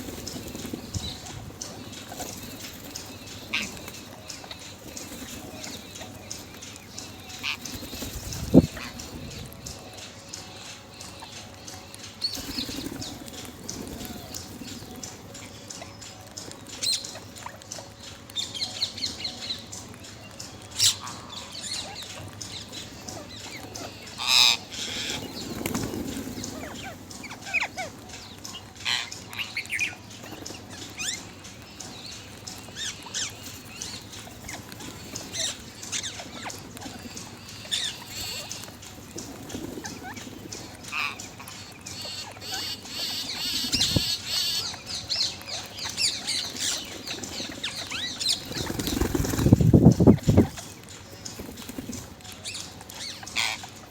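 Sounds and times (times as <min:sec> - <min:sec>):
parrots squawking and chirping: 0:00.0 - 0:18.8, 0:20.7 - 0:53.9.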